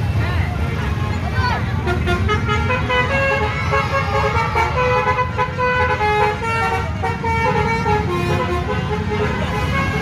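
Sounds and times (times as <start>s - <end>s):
engine and traffic rumble: 0.0s - 10.0s
bus musical horn tune: 1.9s - 10.0s.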